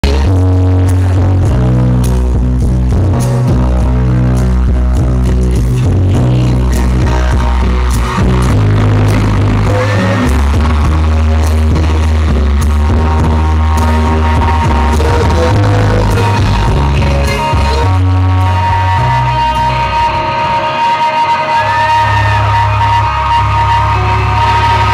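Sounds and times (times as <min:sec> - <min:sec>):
distorted live rock band: 0:00.0 - 0:24.9.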